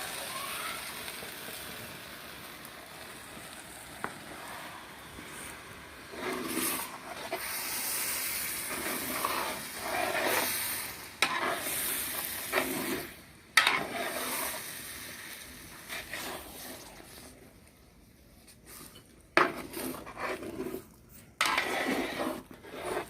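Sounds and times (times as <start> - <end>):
chicken sizzling in a pot: 0.0 - 17.7, 18.6 - 23.0.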